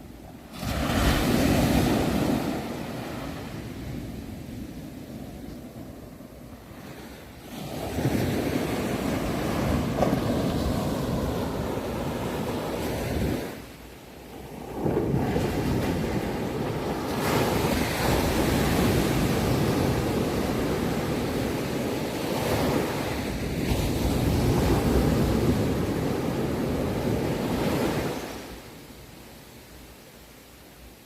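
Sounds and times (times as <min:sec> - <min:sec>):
sea waves washing in: 0:00.0 - 0:29.2.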